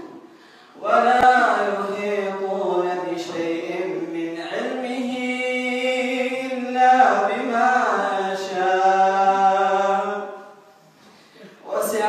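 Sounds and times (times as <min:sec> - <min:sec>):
man reciting in melodic chant: 0:00.0 - 0:10.6, 0:11.4 - 0:12.0.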